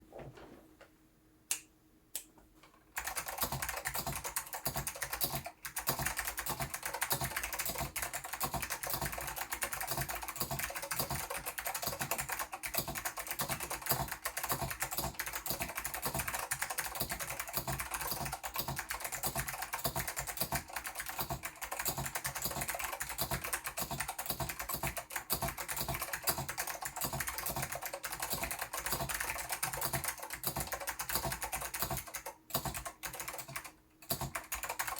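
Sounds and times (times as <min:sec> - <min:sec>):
clicky mechanical keyboard typing: 0:03.0 - 0:34.9.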